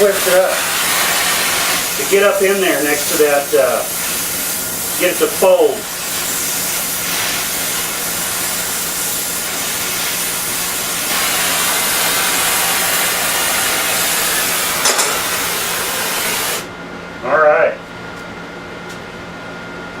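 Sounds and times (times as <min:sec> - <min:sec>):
gas torch flame hissing: 0:00.0 - 0:16.7.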